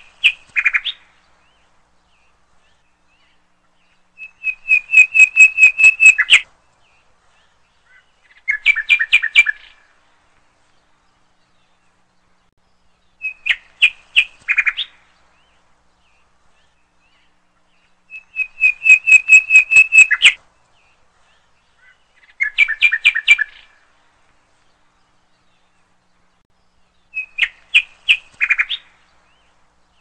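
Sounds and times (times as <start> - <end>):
small bird chirping: 0.0 - 9.9, 10.7 - 23.8, 24.8 - 30.0.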